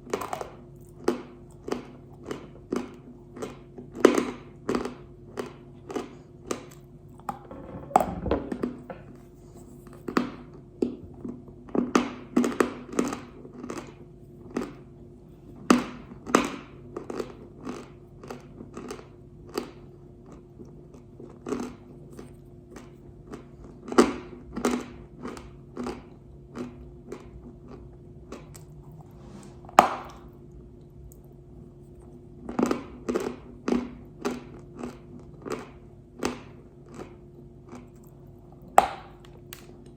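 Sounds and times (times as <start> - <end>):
chalk crunching while chewed: 0.0 - 7.4, 9.2 - 39.9
faint steady hum: 0.0 - 39.9.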